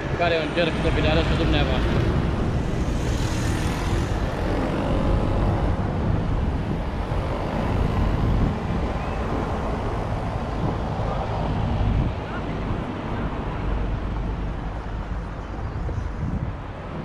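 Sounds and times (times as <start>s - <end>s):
low rumble: 1.0s - 15.3s.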